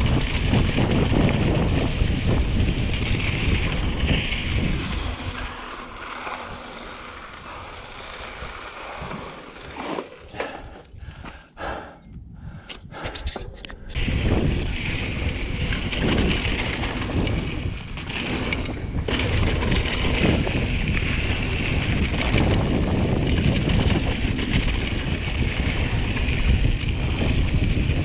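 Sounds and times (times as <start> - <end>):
bike rattling and ticking: 0.0 - 9.7, 12.9 - 28.0
tyres rumbling on dirt: 0.0 - 10.8, 14.0 - 28.0
wind buffeting microphone: 0.0 - 28.0.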